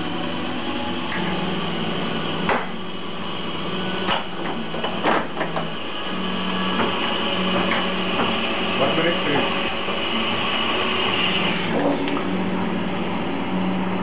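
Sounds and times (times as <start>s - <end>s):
espresso machine humming: 0.0s - 14.0s.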